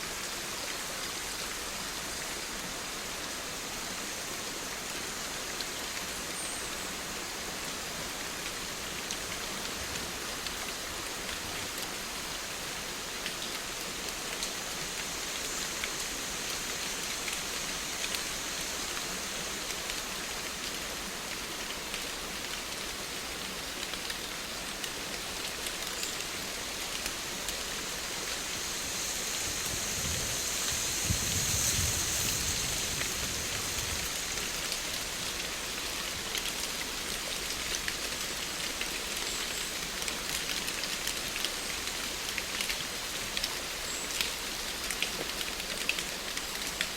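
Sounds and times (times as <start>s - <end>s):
rain pattering: 0.2s - 46.9s.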